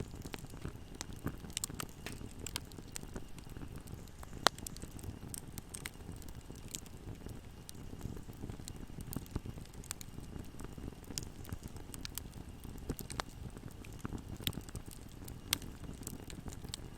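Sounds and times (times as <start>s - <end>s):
wood fire crackling and popping: 0.0s - 16.9s.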